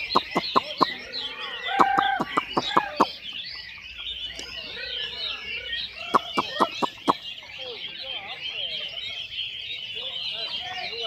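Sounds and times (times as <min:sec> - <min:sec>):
loud sharp bird notes: 0:00.0 - 0:11.0
songbirds twittering chorus: 0:00.0 - 0:11.0.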